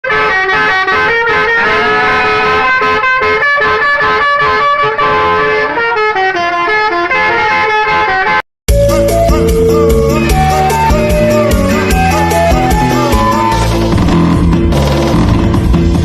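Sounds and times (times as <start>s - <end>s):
bus horns playing melodic notes: 0.0s - 14.3s.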